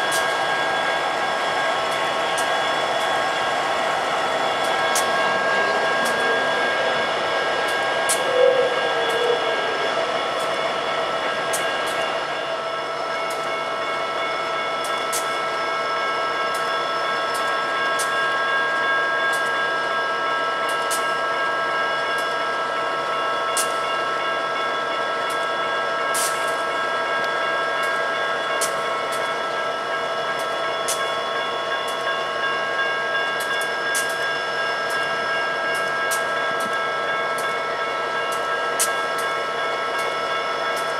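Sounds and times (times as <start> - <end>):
diesel locomotives running: 0.0 - 40.9.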